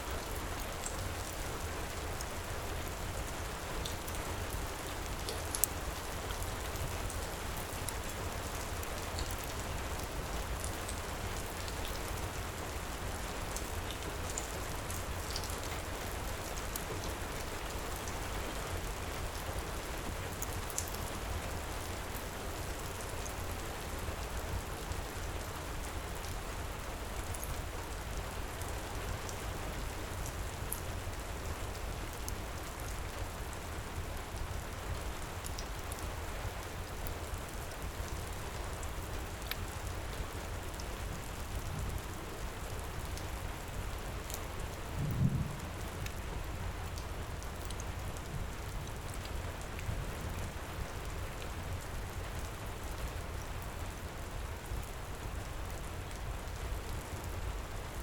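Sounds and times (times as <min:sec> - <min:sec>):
heavy rain pouring: 0:00.2 - 0:58.0.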